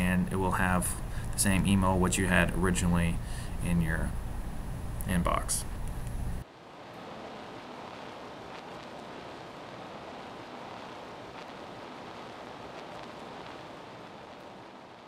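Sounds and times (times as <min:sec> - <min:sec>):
room tone hiss: 0:00.0 - 0:15.0.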